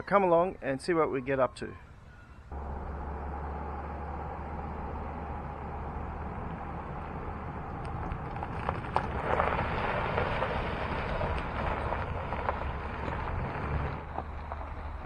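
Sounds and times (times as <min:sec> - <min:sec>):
vehicle driving on gravel: 0:02.5 - 0:15.0.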